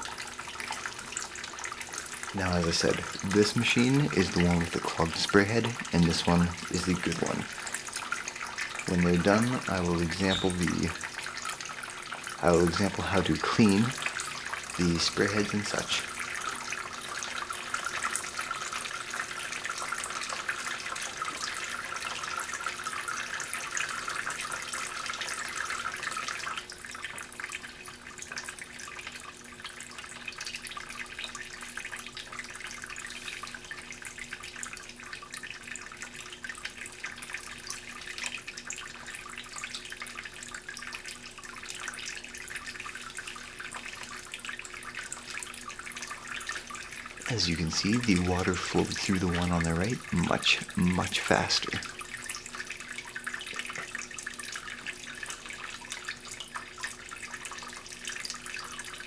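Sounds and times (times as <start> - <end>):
hot water streaming: 0.0 - 59.0.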